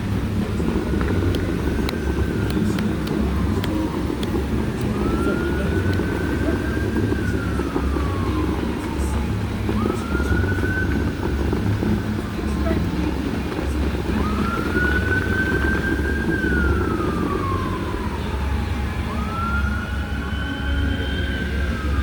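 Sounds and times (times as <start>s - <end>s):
emergency siren wailing: 0.0s - 22.0s
low traffic rumble: 0.0s - 22.0s.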